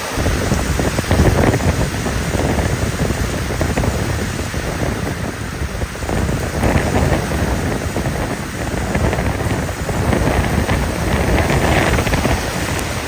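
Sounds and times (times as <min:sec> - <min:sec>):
wind gusts buffeting microphone: 0:00.0 - 0:13.0.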